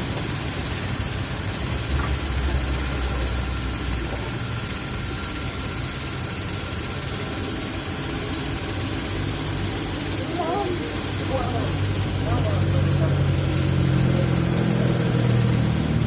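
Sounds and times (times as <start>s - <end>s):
mechanical running noise: 0.0s - 16.0s.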